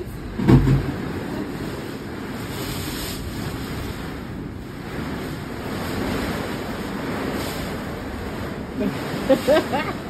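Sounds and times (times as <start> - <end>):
wind and rain rushing: 0.0 - 10.0.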